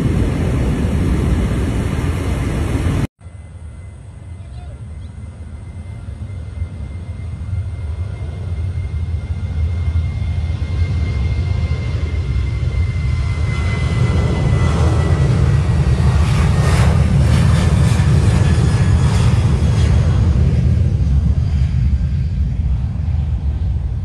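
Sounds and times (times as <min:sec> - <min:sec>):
jet engines deep rumble: 0:00.0 - 0:24.0.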